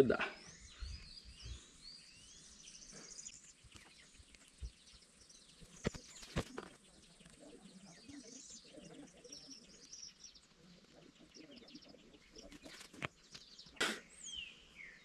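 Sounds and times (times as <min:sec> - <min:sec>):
birds chirping: 0:00.0 - 0:15.0
quiet outdoor ambience: 0:00.0 - 0:15.0.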